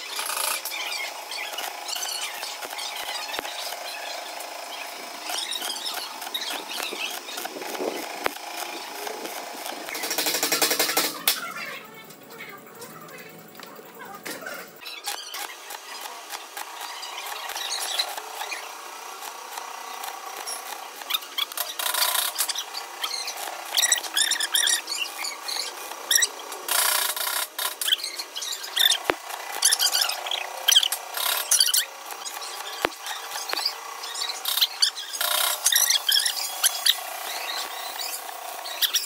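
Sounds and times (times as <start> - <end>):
welding arc crackling: 0.0 - 11.9, 14.8 - 39.0.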